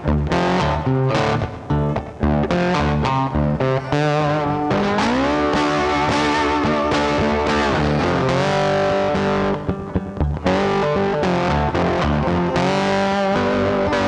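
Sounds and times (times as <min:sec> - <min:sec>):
distorted electric guitar music: 0:00.0 - 0:14.0.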